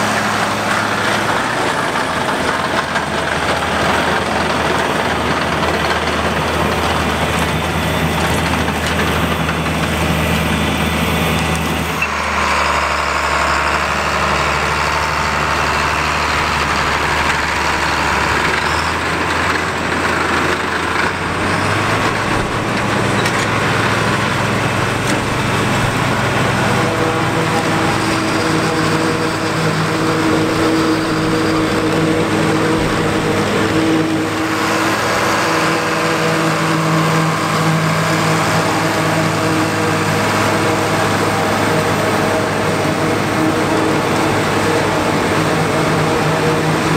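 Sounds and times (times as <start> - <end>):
forage harvester chopping corn: 0.0 - 12.8, 16.3 - 46.9
tractor diesel engine under load: 0.0 - 46.9.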